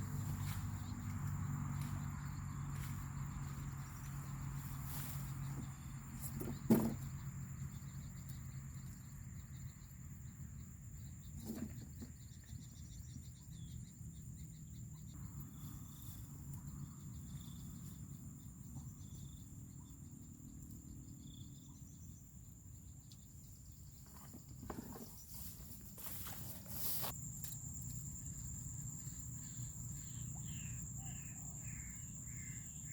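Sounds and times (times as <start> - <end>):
insects chirping: 0.0 - 32.9.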